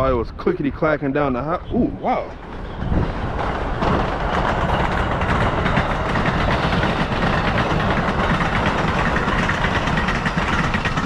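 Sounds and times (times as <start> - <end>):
train wheels clacking on rails: 2.1 - 11.0.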